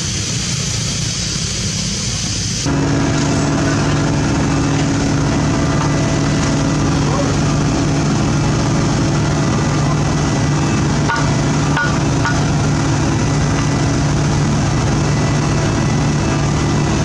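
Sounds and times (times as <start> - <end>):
heavy diesel engines droning: 0.0 - 17.0.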